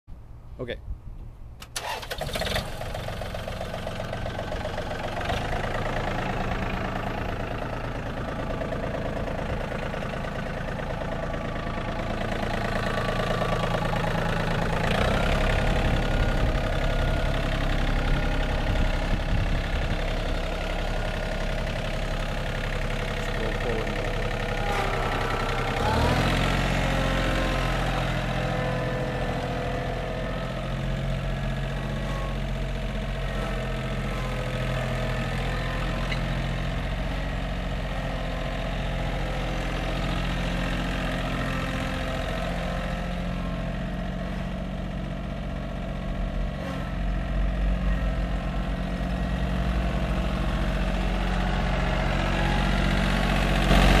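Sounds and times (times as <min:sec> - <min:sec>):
tractor diesel engine running: 0:01.4 - 0:54.0.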